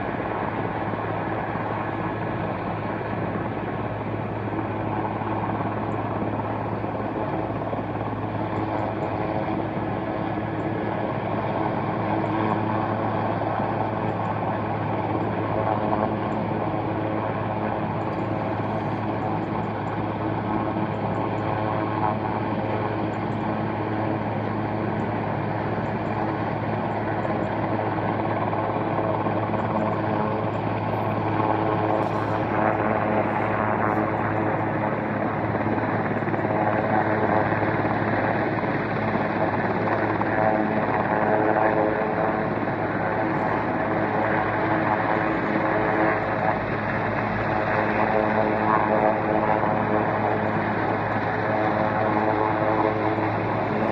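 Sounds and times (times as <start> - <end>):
distant helicopter drone: 0.0 - 53.9.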